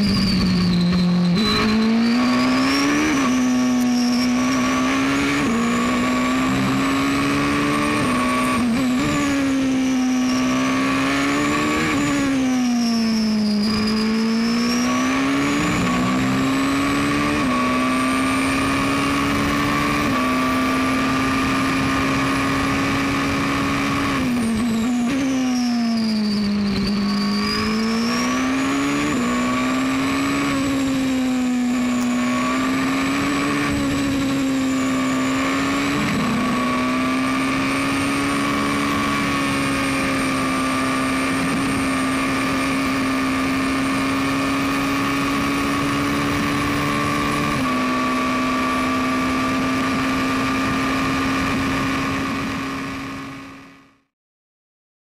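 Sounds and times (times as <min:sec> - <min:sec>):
high whine: 0:00.0 - 0:53.7
race car engine at high revs: 0:00.0 - 0:54.1.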